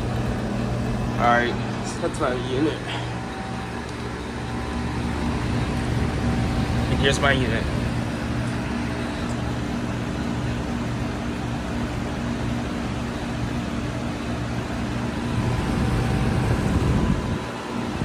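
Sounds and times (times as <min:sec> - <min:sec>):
compressor hum: 0:00.0 - 0:18.0
fan rushing: 0:00.0 - 0:18.0.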